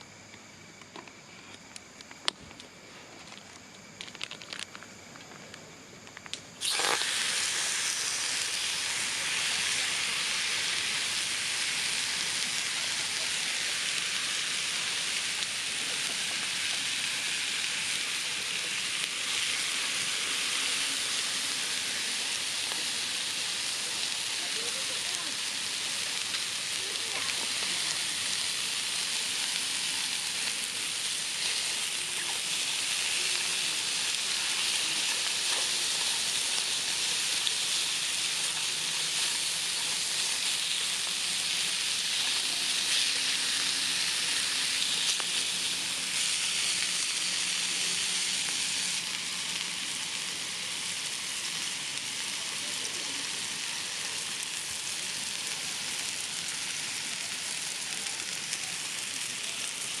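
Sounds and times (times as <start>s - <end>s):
food sizzling over fire: 0.0s - 60.0s
small fire crackles: 0.0s - 60.0s.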